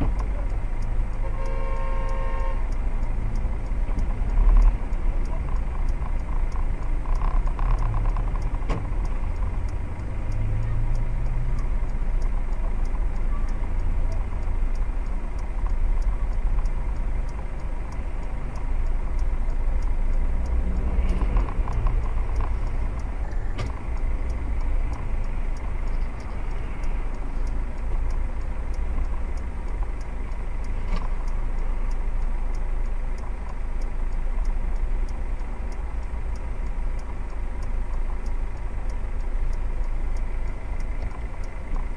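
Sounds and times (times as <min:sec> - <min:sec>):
faint regular ticking: 0:00.0 - 0:41.9
traffic noise: 0:00.0 - 0:41.9.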